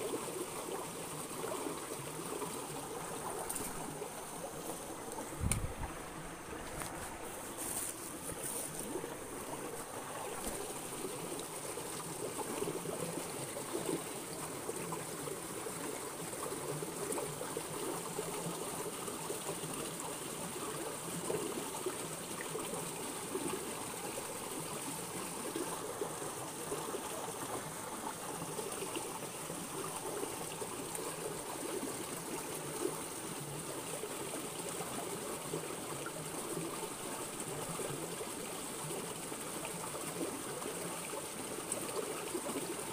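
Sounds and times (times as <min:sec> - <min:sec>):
stream gurgling over stones: 0:00.0 - 0:42.9.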